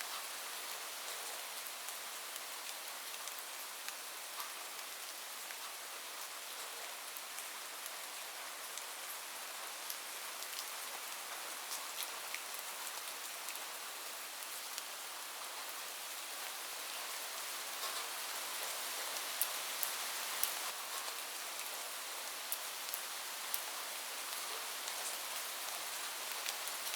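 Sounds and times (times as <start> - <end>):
heavy rain on a roof: 0.0 - 26.9
sharp ticks of raindrops: 0.1 - 15.7, 16.4 - 26.9.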